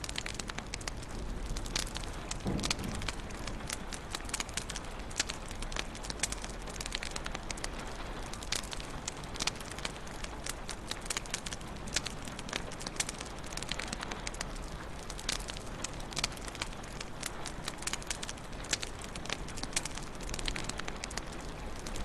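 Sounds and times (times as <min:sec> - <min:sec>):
soft hiss of flames: 0:00.0 - 0:22.0
wood fire crackling and popping: 0:00.0 - 0:22.0.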